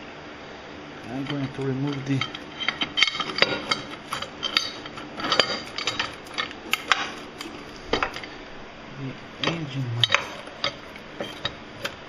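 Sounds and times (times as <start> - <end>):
metal tools clinking: 1.0 - 8.4, 9.3 - 12.0.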